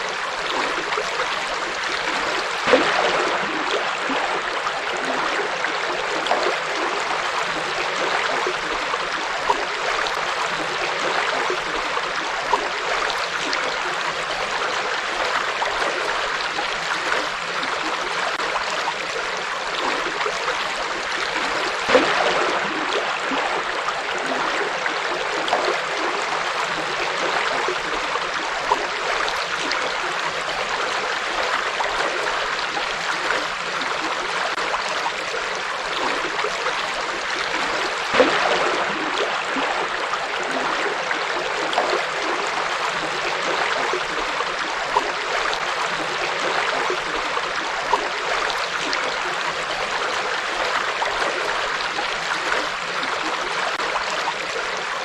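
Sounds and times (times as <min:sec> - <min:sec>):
water splashes and gurgles: 0:00.0 - 0:55.0.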